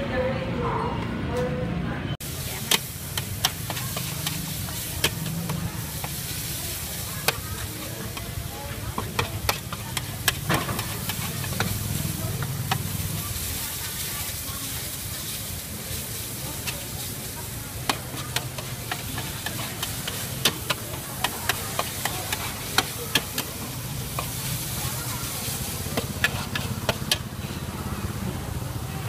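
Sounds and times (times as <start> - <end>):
steady sizzle: 2.2 - 29.0
metal spatula scraping a wok: 2.3 - 27.7.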